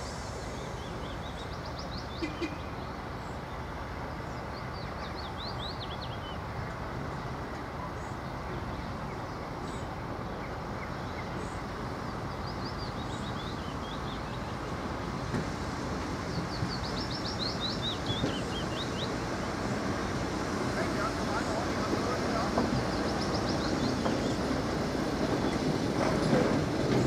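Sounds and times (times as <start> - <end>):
locomotive engine running: 0.0 - 27.0
songbirds chirping: 0.2 - 27.0.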